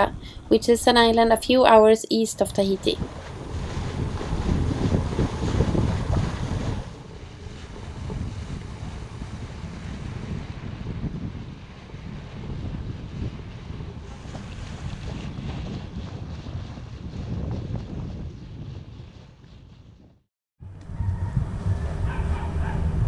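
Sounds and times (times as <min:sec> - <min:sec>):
water washing along hull: 0:00.0 - 0:20.0, 0:20.8 - 0:23.0
wind buffeting microphone: 0:00.0 - 0:23.0.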